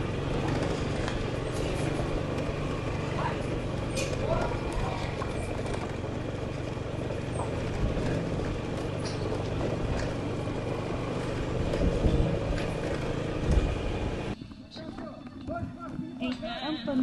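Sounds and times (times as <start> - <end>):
motorcycle engine running: 0.0 - 16.6
tyres rumbling over cobblestones: 0.0 - 17.0.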